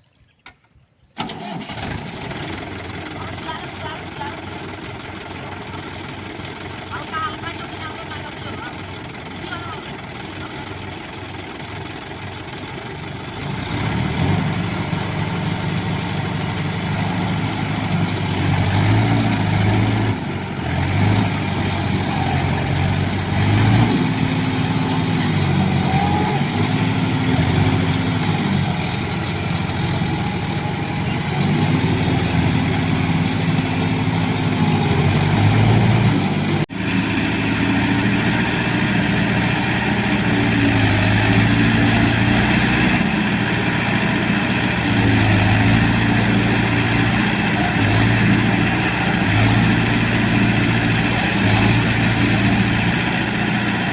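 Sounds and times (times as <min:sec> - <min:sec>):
tractor diesel engine revving: 0:01.2 - 0:53.9.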